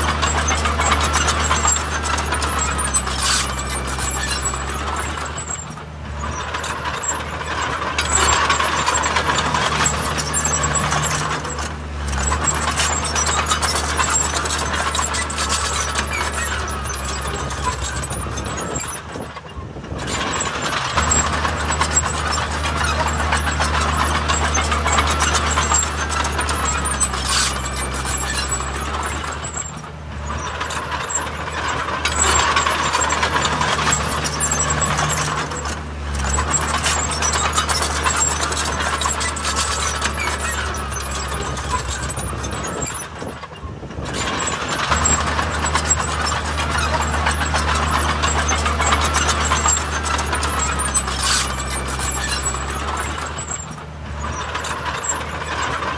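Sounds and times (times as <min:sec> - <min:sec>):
diesel engine drone: 0:00.0 - 0:55.9
metallic clatter of machinery: 0:00.0 - 0:55.9.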